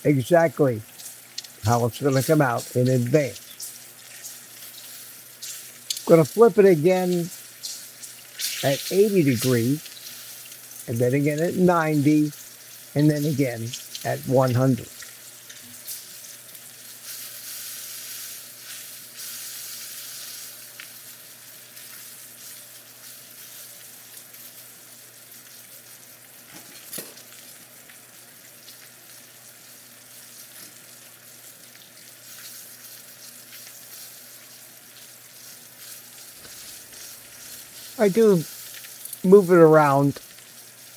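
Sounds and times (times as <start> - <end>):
steak sizzling in a pan: 0.0 - 40.9.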